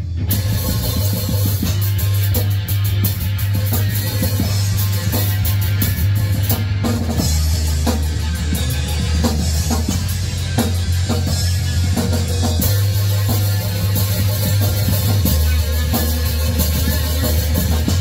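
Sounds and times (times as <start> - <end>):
drum kit with cymbals: 0.0 - 18.0
electric guitar: 0.0 - 18.0.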